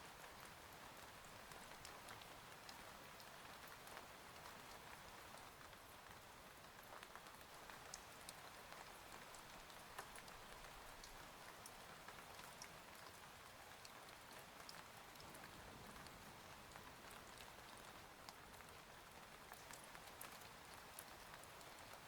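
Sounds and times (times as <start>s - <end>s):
faint steady rain hiss: 0.0s - 22.0s.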